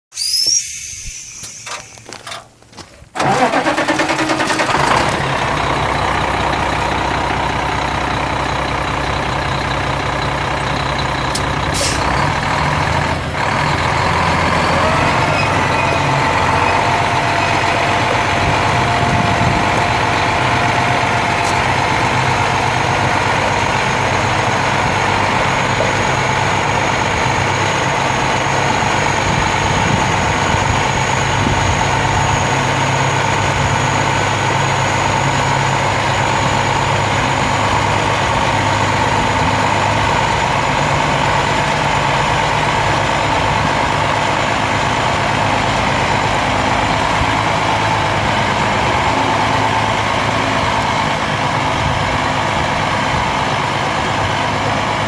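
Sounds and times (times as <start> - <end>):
diesel engine cranking: 0.2 - 55.0
diesel truck engine idling: 3.1 - 55.0.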